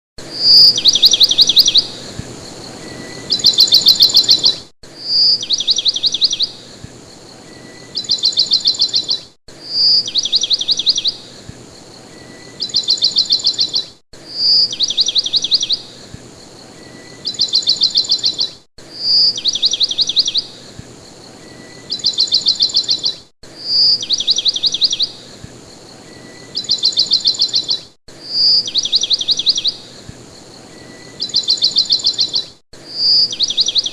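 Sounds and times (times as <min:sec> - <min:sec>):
songbird trilling: 0:00.3 - 0:25.4, 0:26.0 - 0:33.9.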